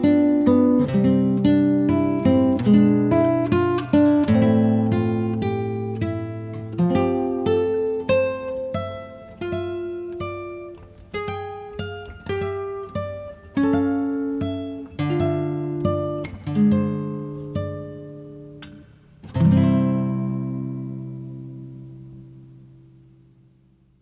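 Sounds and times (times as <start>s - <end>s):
guitar chord ringing: 0.0s - 23.1s
acoustic guitar picking: 0.0s - 23.8s.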